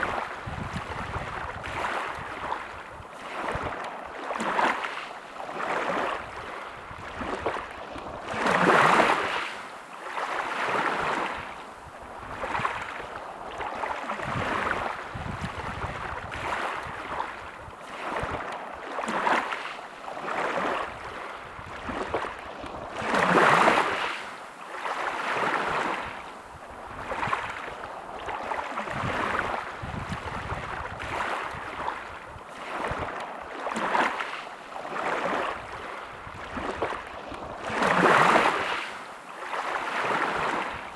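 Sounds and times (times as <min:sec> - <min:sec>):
sea waves washing onto beach: 0:00.0 - 0:40.9.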